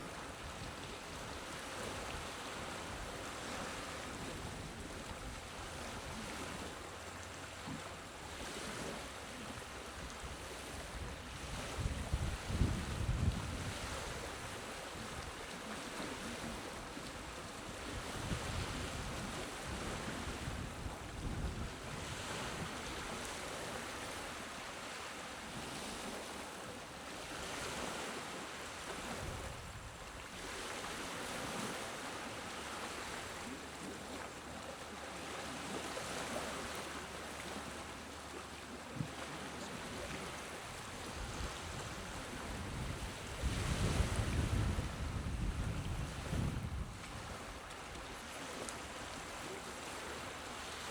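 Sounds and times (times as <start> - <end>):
sea waves washing on shore: 0.0 - 50.9.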